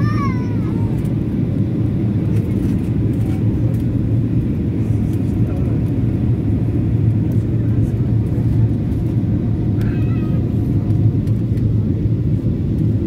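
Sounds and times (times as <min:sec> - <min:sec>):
constant low hum: 0:00.0 - 0:13.0
jet engine and airflow roar: 0:00.0 - 0:13.0.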